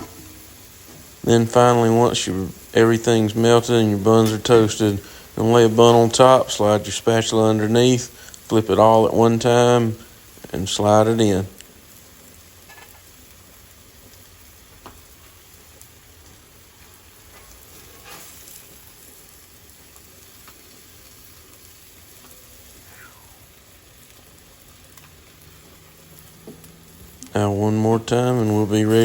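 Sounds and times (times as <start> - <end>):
food sizzling on a griddle: 0.0 - 29.0.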